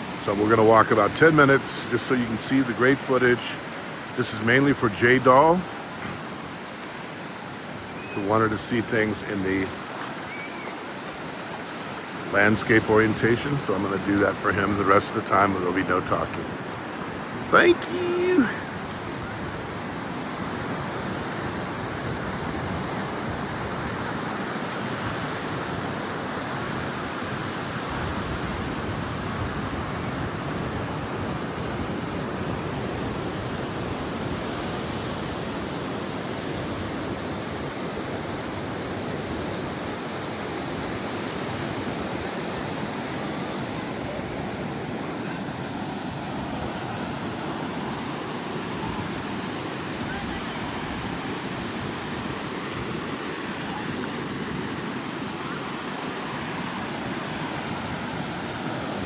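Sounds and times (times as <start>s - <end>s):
surf washing on sandy beach: 0.0s - 59.0s.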